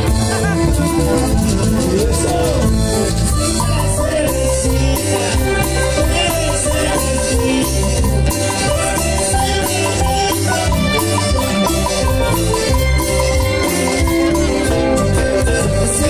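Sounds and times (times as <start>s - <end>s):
live band playing dance music: 0.0s - 16.0s.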